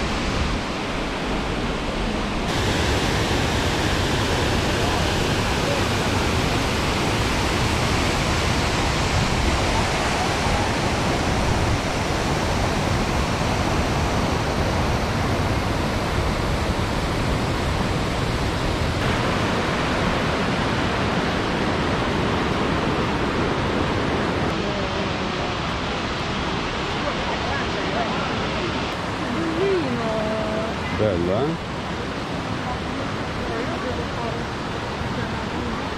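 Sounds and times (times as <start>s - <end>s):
waterfall roaring: 0.0s - 35.9s.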